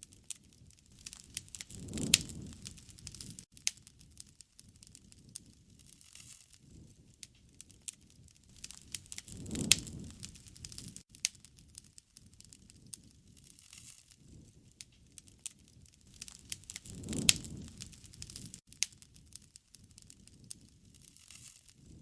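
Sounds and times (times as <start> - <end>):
bonfire crackling and popping: 0.0 - 22.0
low rush of flame: 0.4 - 22.0.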